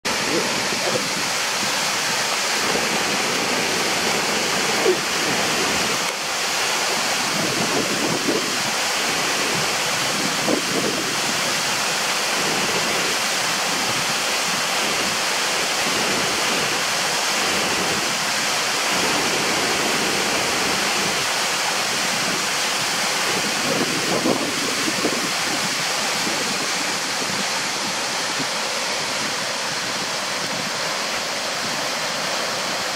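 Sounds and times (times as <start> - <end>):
waterfall pouring into pool: 0.1 - 32.9.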